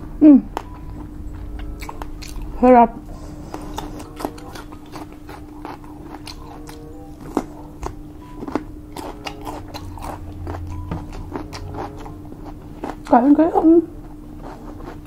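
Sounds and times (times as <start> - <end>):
person chewing food: 0.0 - 13.1, 13.9 - 15.0.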